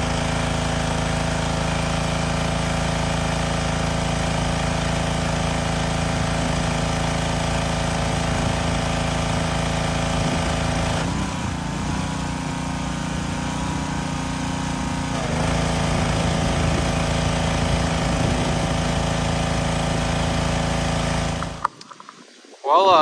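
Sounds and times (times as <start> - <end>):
pressure washer running: 0.0 - 21.7.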